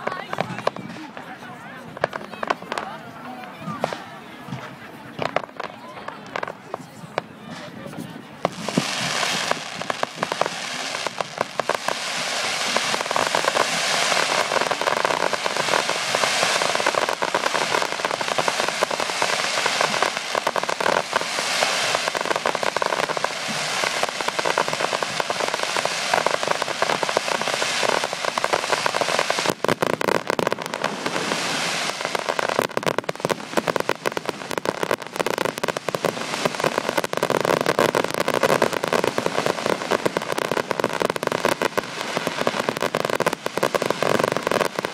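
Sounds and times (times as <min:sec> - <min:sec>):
fireworks bangs: 0:00.0 - 0:44.9
fireworks crackling and popping: 0:00.0 - 0:44.9.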